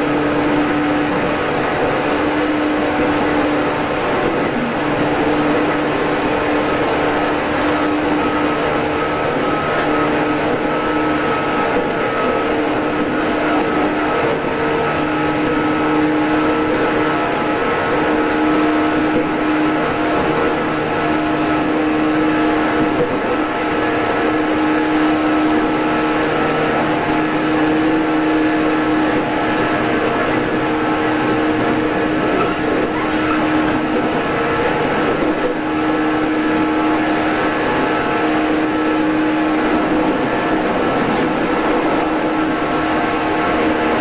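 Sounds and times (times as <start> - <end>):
motor and gear whine: 0.0 - 44.0
train running noise: 0.0 - 44.0.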